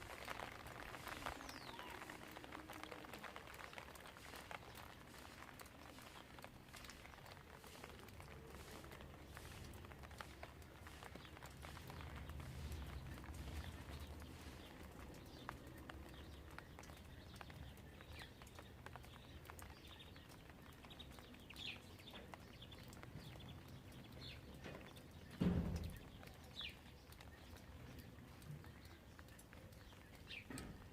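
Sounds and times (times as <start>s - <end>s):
light ticks: 1.0s - 30.9s.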